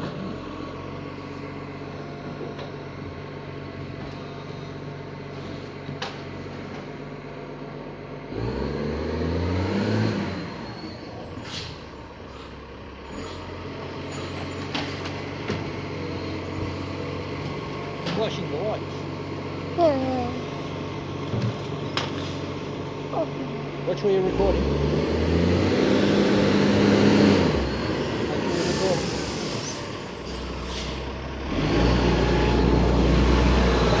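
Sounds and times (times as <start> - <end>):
garbage truck diesel engine: 0.0 - 34.0.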